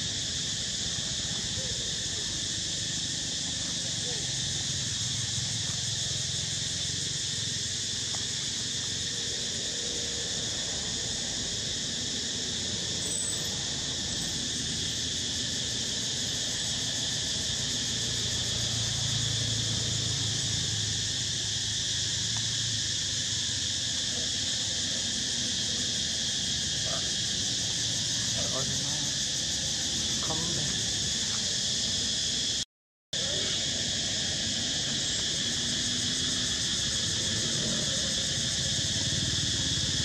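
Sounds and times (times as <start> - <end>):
insects chorus drone: 0.0 - 32.6, 33.2 - 40.0.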